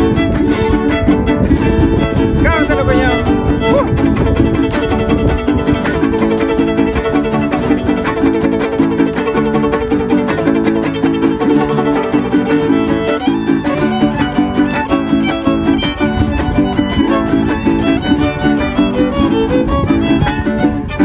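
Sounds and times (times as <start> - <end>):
guitars strumming: 0.0 - 21.0
violin melody: 0.0 - 21.0.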